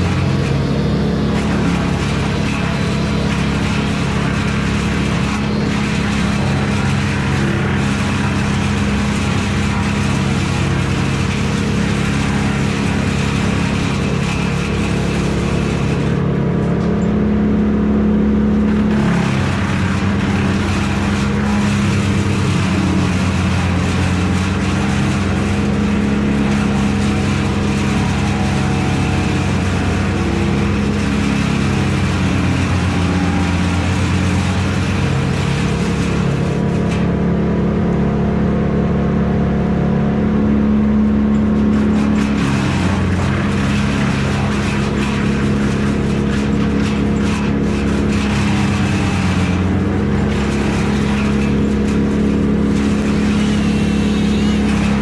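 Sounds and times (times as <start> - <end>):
large engine running: 0.0 - 55.0.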